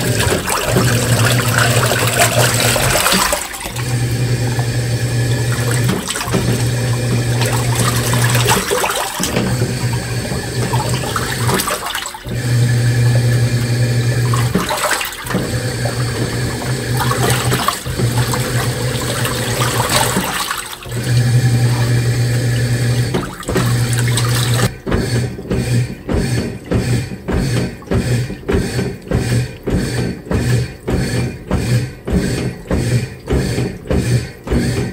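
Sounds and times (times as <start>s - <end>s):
washing machine motor humming: 0.0s - 34.9s
water and laundry sloshing: 0.0s - 34.9s.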